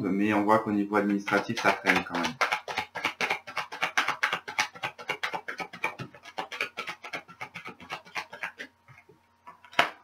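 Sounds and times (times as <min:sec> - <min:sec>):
cards being shuffled: 0:01.0 - 0:10.0.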